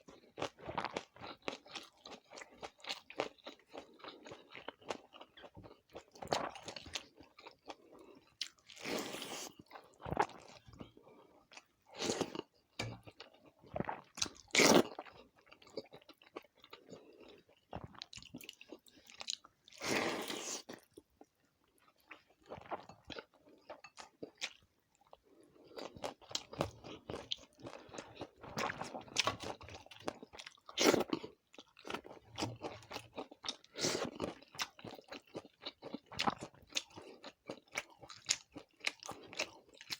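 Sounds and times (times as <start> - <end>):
person chewing crisp food: 0.0 - 21.0, 21.6 - 39.9.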